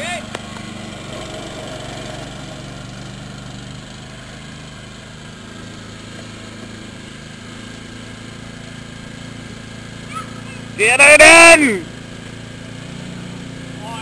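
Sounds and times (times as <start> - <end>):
garden tractor engine idling: 0.0 - 14.0.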